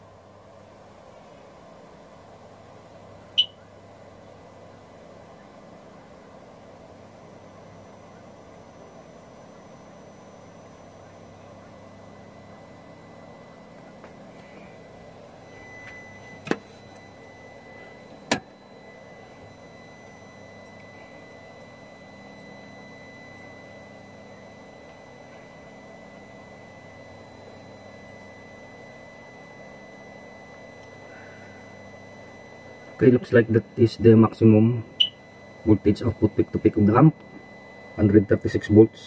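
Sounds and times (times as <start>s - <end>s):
equipment hum and hiss: 0.0s - 39.0s
faint high whine: 0.0s - 39.0s.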